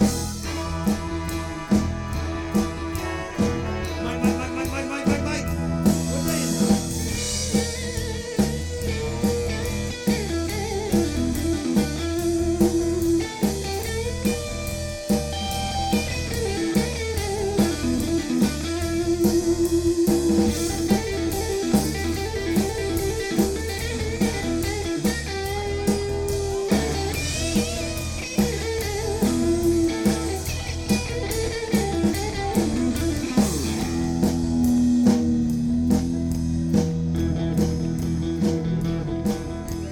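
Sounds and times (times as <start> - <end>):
bass: 0.0 - 39.9
drum kit beat: 0.0 - 39.9
electric guitar lines: 0.0 - 39.9.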